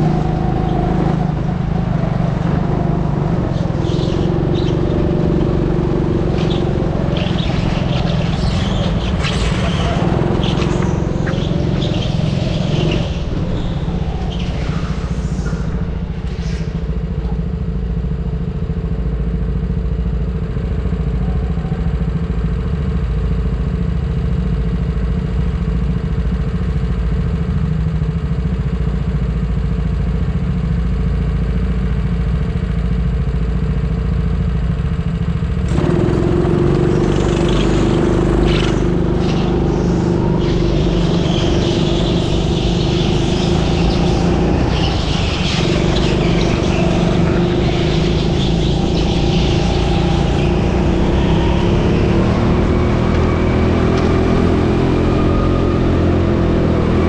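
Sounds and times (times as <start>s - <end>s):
go-kart engine droning: 0.0s - 57.0s
clatter: 1.8s - 51.3s.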